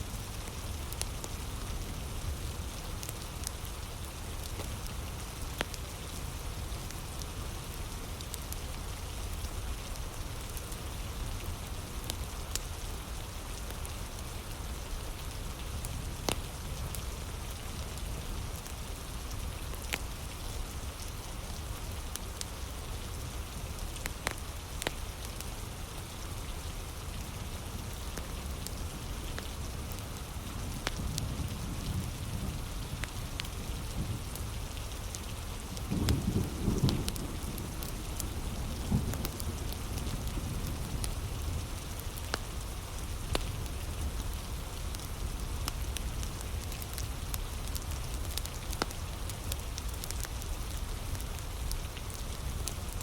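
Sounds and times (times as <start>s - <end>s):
wood fire crackling: 0.1s - 22.8s, 23.5s - 26.0s, 26.7s - 53.0s
heavy rain falling: 0.1s - 53.0s.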